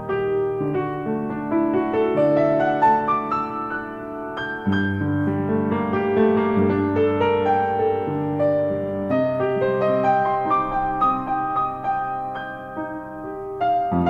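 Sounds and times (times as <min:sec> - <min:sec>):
upright piano playing a tune: 0:00.0 - 0:14.0.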